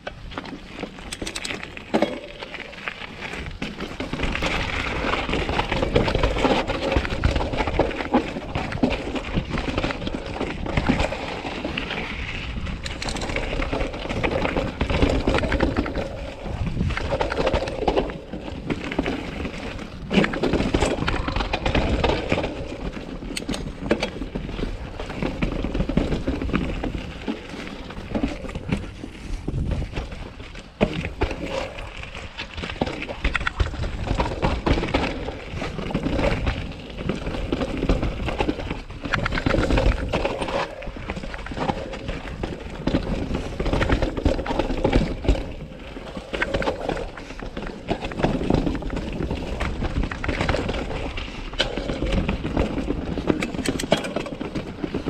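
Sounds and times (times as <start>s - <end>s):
bike chain and frame rattling: 0.0s - 55.0s
bike knocking on rocks: 0.0s - 55.0s
bike tyres crunching over stones: 0.0s - 55.0s.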